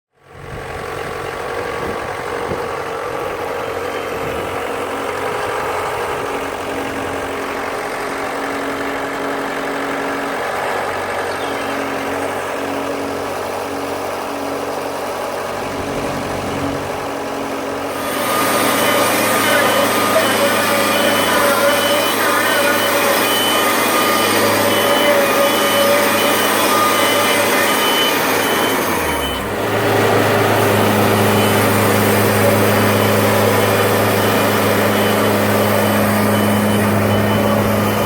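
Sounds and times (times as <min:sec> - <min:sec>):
sawmill engine running: 0:00.1 - 0:38.0.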